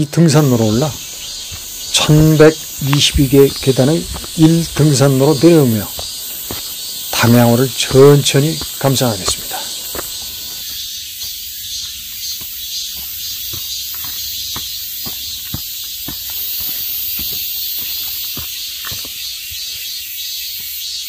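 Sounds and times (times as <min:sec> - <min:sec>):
footsteps on dirt trail: 0:00.0 - 0:21.0
high-pitched insect chorus: 0:00.0 - 0:21.0.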